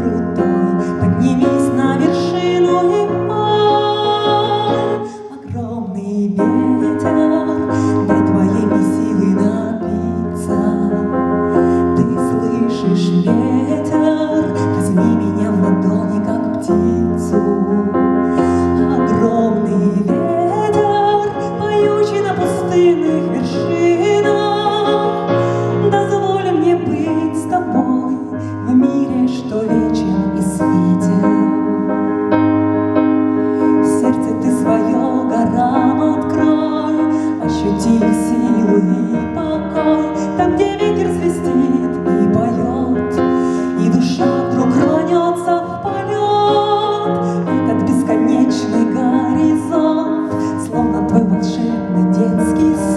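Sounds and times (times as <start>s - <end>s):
piano and keyboard instrumental: 0.0s - 52.9s.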